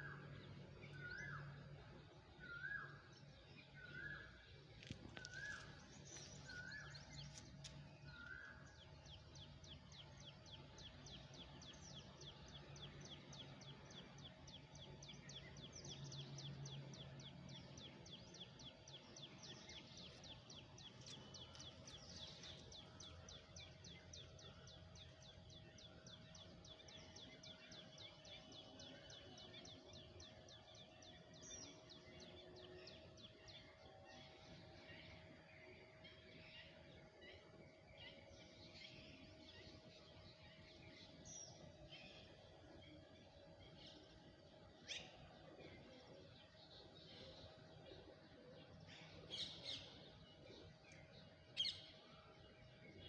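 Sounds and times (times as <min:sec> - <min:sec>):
birds chirping: 0:00.0 - 0:53.0
low steady hum: 0:00.0 - 0:53.0.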